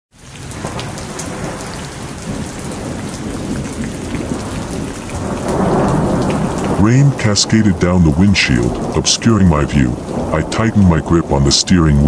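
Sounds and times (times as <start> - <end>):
heavy rain pattering: 0.1 - 12.0
low thunder rumble: 0.6 - 12.0.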